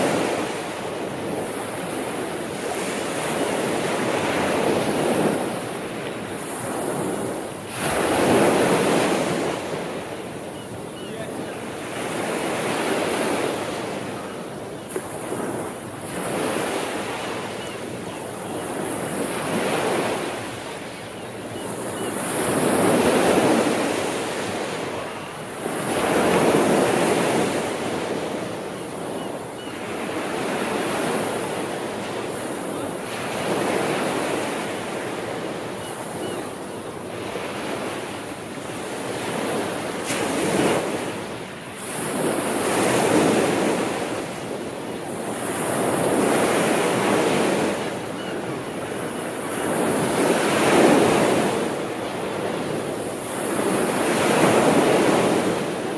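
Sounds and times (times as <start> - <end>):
ocean waves breaking on shore: 0.0 - 55.9.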